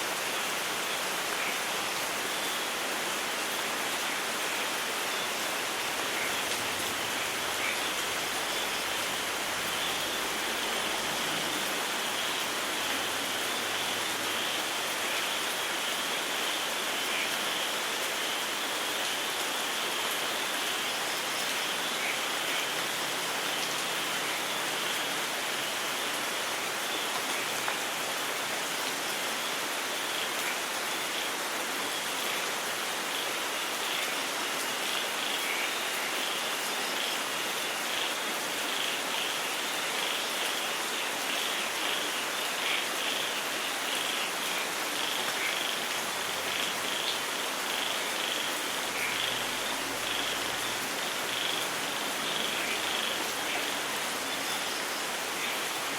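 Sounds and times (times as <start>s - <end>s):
heavy rain falling: 0.0s - 55.9s
frogs calling: 0.2s - 28.1s, 28.7s - 55.9s.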